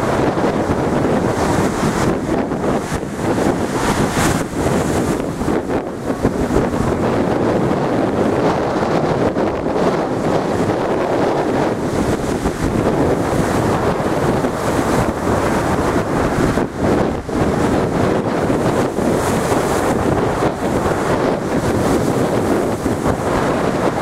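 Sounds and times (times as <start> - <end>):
waves breaking against sea wall: 0.0 - 24.0
wind buffeting microphone: 0.0 - 24.0.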